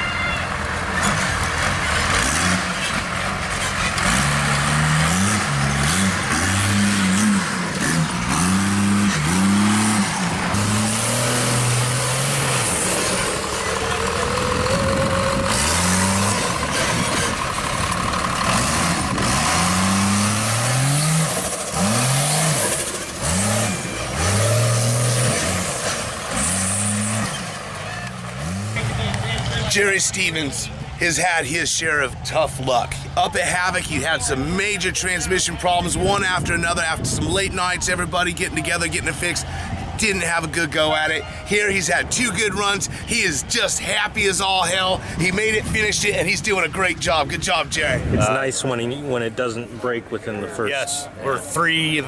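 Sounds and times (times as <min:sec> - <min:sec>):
truck engine revving hard: 0:00.0 - 0:48.3.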